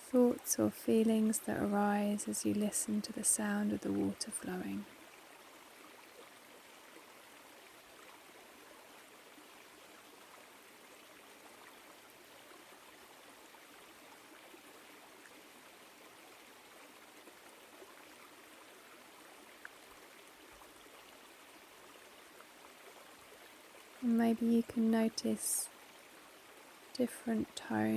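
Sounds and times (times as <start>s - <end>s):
stream flowing over rocks: 0.0s - 27.9s.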